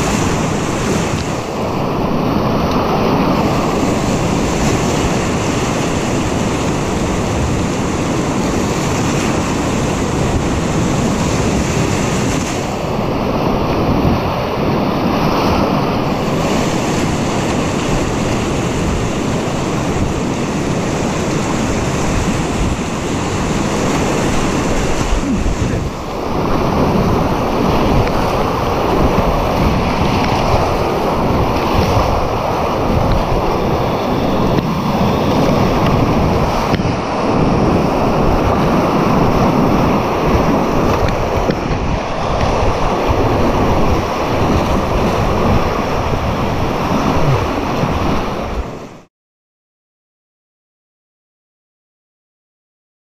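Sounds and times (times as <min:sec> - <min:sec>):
whitewater rapids rushing: 0:00.0 - 0:49.1.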